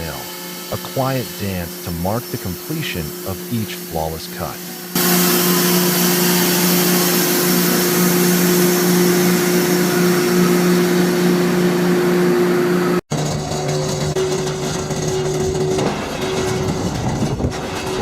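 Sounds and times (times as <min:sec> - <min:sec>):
sawmill machinery motor hum: 0:00.0 - 0:18.0.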